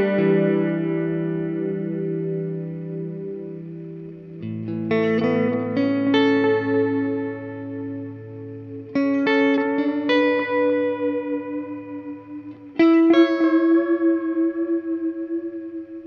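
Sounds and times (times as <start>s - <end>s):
electric guitar with delay: 0.0s - 16.0s.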